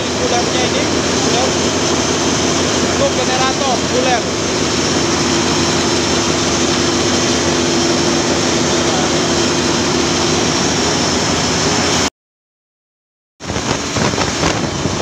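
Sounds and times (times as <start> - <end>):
engine room machinery din: 0.0 - 12.1, 13.4 - 15.0
steady machinery hum: 0.0 - 12.1.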